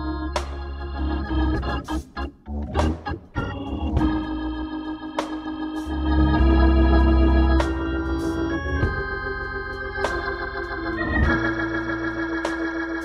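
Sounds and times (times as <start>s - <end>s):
bass line: 0.0s - 13.0s
organ chords: 0.0s - 13.0s.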